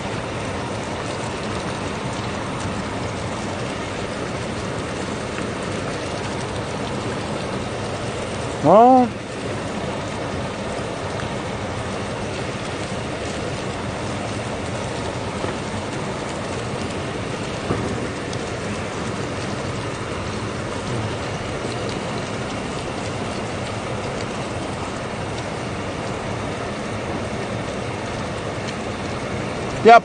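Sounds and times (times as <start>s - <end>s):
meat sizzling on griddle: 0.0s - 30.0s.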